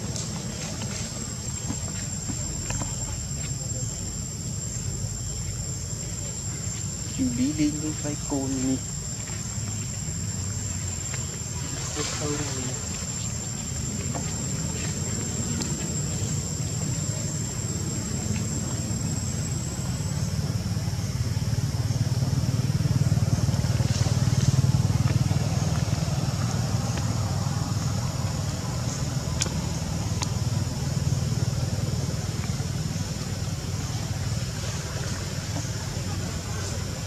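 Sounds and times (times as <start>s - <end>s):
low motor rumble: 0.0s - 37.0s.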